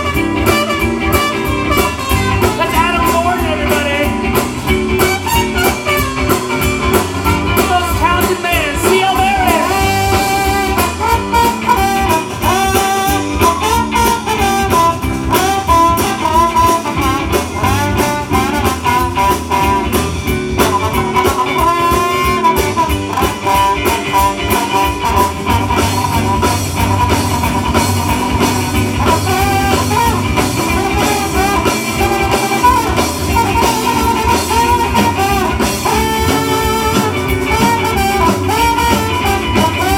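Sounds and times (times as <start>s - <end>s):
swing and soul band playing: 0.0s - 39.9s.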